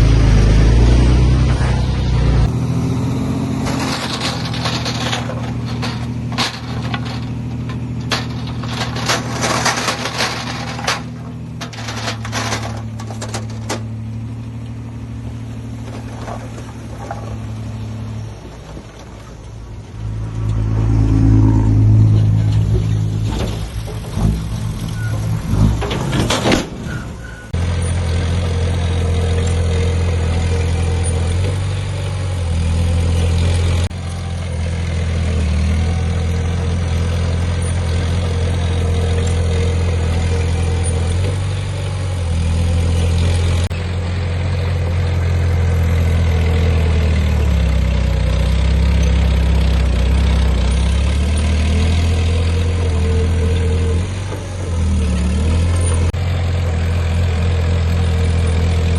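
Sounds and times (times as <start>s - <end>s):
diesel engine deep drone: 0.0s - 58.9s.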